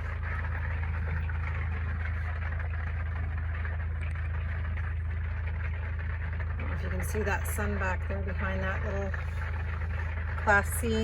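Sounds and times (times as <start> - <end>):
low hum: 0.0 - 11.0
rain drumming on a roof: 0.0 - 11.0.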